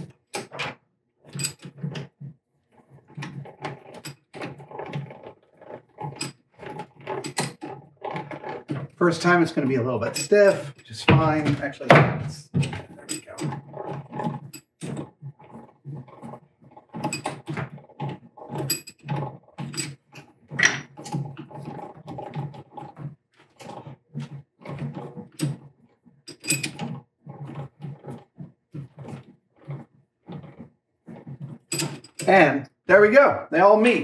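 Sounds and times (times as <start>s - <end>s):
lathe chuck metal clicks and grinds: 0.0s - 32.5s.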